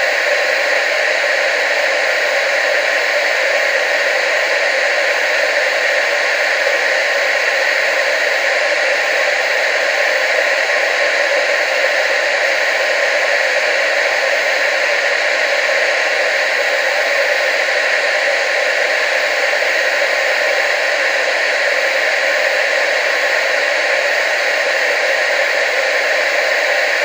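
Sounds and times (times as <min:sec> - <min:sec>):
television static hiss: 0:00.0 - 0:27.0.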